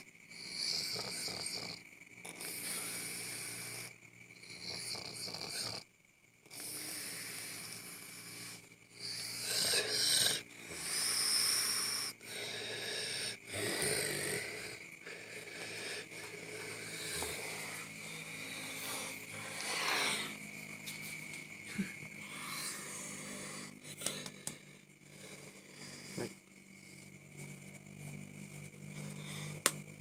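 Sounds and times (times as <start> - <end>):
man snoring with rasping breaths: 0.0 - 30.0.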